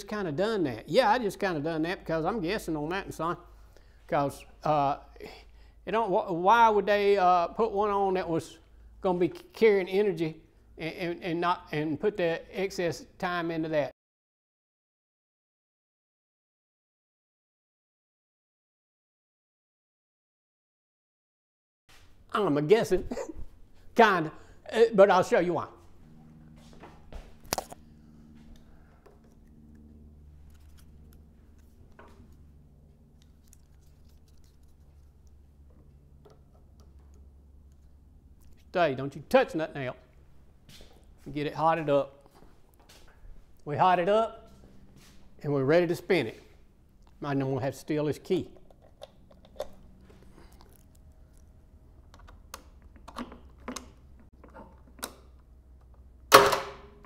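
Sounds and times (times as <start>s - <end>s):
low steady hum: 0.0s - 13.9s, 22.0s - 57.0s.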